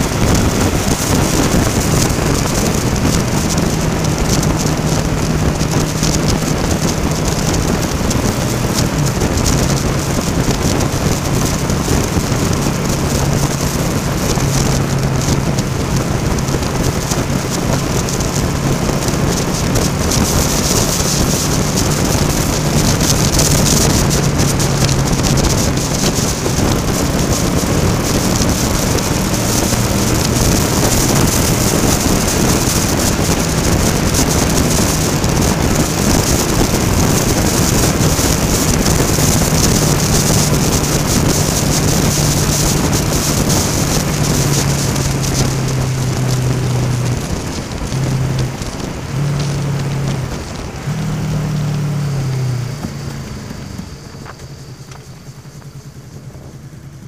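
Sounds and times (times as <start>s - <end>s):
motorcycle engine running: 0.0s - 57.0s
rain and spray on wet road: 0.0s - 57.0s
wind rush on microphone: 0.0s - 57.0s.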